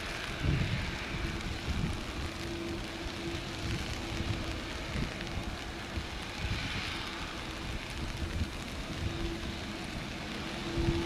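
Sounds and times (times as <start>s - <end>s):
rain hiss: 0.0s - 11.0s
wind gusting on microphone: 0.0s - 11.0s.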